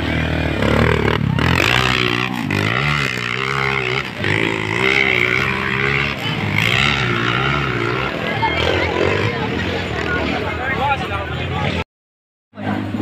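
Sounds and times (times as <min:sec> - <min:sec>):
motorcycle engines revving: 0:00.0 - 0:11.8, 0:12.6 - 0:13.0.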